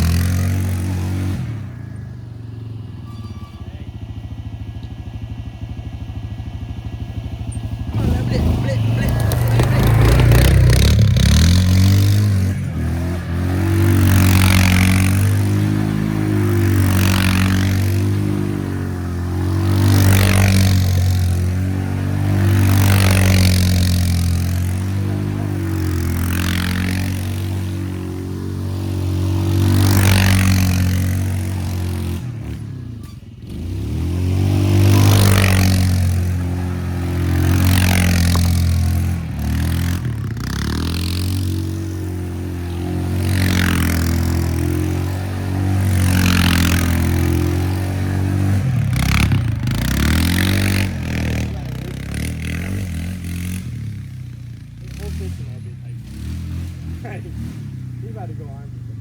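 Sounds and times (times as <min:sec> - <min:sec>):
vehicle engine running under load: 0:00.0 - 0:59.0.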